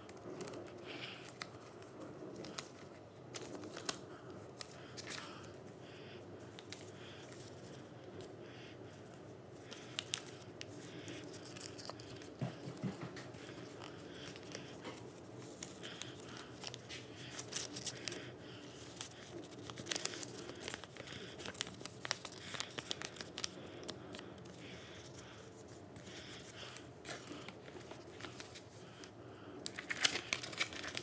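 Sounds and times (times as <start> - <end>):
paper crinkling and creasing: 0.0 - 5.6, 9.0 - 31.0.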